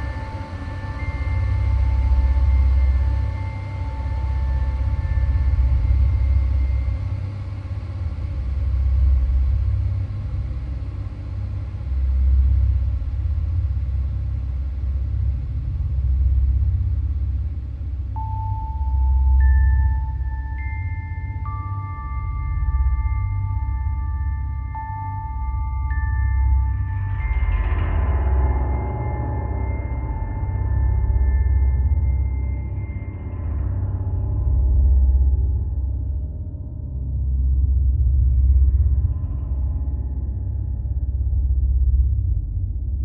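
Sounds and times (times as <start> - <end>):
deep rumbling drone: 0.0 - 43.0.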